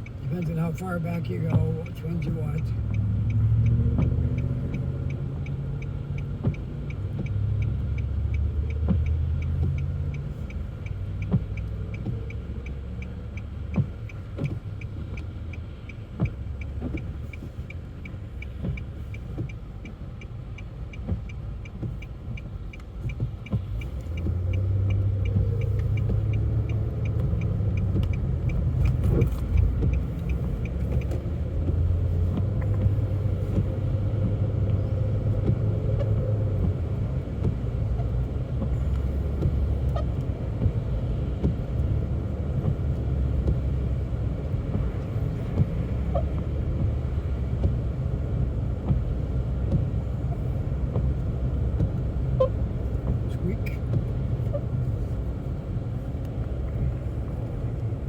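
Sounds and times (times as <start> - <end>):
car engine and road rumble: 0.0 - 58.0
turn signal ticking: 0.0 - 58.0.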